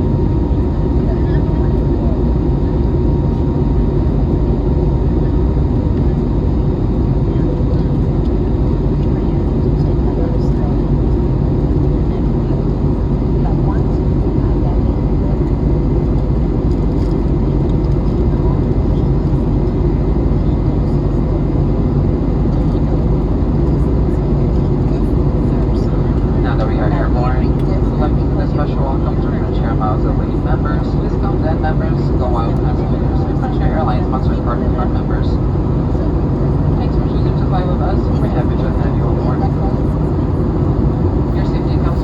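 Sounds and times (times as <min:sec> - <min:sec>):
airplane cabin engine rumble: 0:00.0 - 0:42.0.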